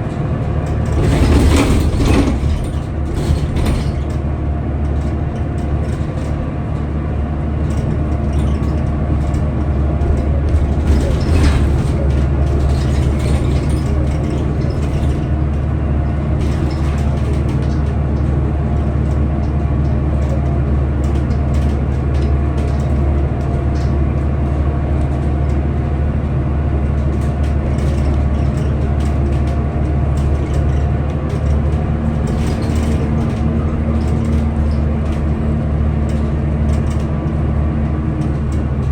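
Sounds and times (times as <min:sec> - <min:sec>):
clicks and rattles: 0:00.0 - 0:06.9, 0:07.6 - 0:26.1, 0:26.9 - 0:38.9
bus engine droning: 0:00.0 - 0:38.9.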